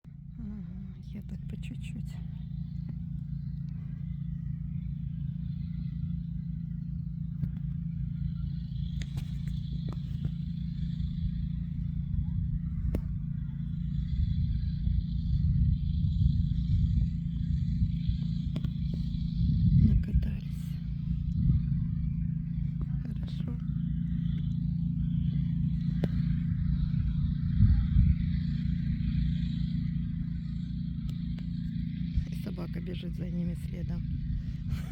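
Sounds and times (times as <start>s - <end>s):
vehicle engines rumbling: 0.0s - 34.9s.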